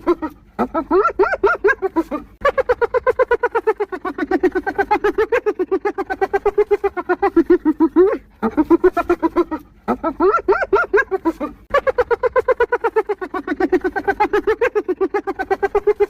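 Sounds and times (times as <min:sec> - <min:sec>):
hyena giggling: 0:00.0 - 0:16.0.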